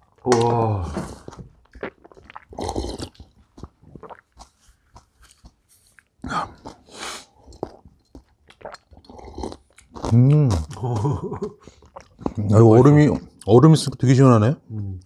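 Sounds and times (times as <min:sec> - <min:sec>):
person chewing and crunching: 0:00.0 - 0:13.4.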